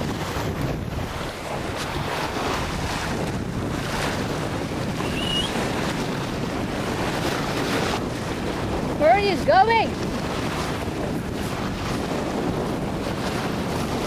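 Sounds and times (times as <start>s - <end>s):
small waves washing onto sand: 0.0s - 14.0s
wind buffeting microphone: 0.0s - 14.0s.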